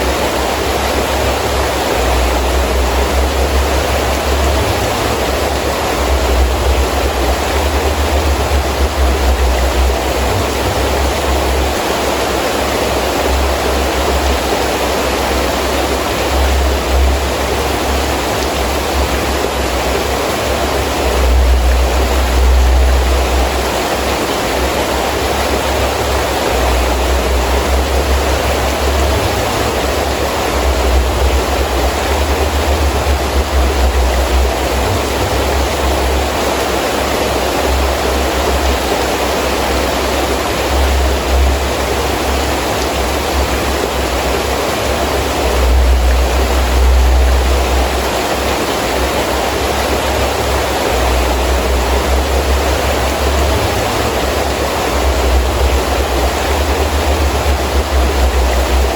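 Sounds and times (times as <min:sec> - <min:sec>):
gusting wind rumble: 0:00.0 - 0:58.9
heavy rain falling: 0:00.0 - 0:58.9.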